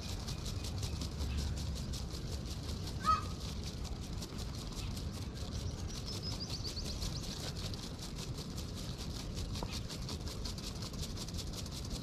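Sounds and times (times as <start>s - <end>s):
fast pulsing high hiss: 0.0s - 12.0s.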